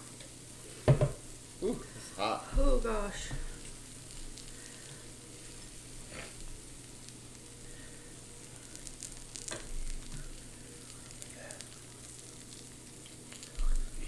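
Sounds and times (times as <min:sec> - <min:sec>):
food sizzling on grill: 0:00.0 - 0:14.0.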